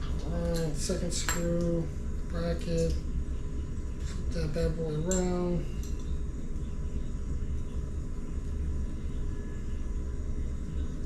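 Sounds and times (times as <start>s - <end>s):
faint constant high tone: 0.0s - 11.0s
steady low rumble: 0.0s - 11.0s.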